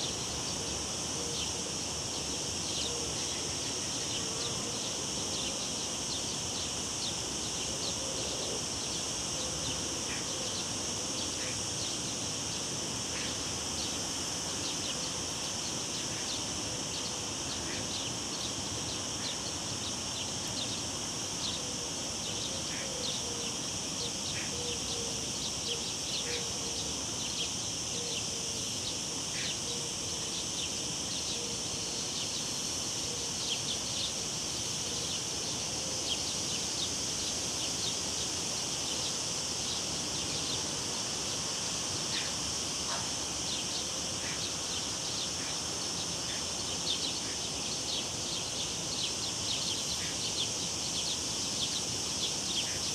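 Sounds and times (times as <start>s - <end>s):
cicadas droning: 0.0s - 52.9s.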